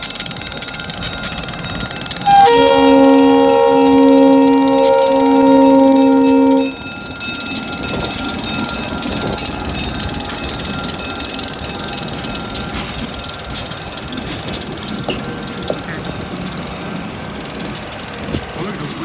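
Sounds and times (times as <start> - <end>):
diesel locomotive engine: 0.0 - 19.0
wheels clicking over rails: 0.0 - 19.0.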